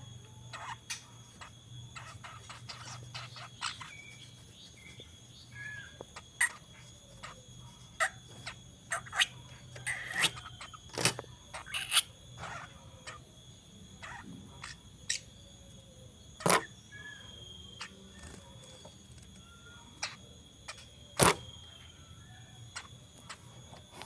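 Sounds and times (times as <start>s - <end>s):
soft whistled bird notes: 0.0s - 24.0s
bird chattering chirps and clicks: 0.1s - 15.4s, 16.3s - 21.9s.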